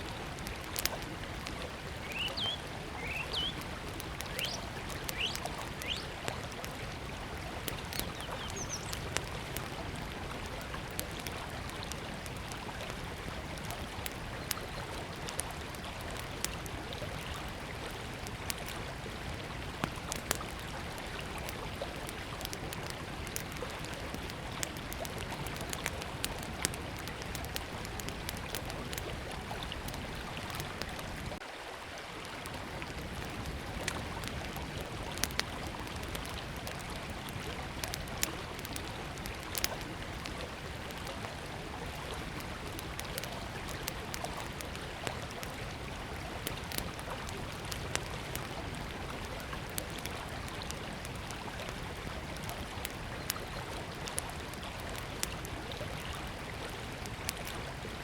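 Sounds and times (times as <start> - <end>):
wood fire crackling: 0.0 - 31.4, 32.2 - 58.0
river water running: 0.0 - 58.0.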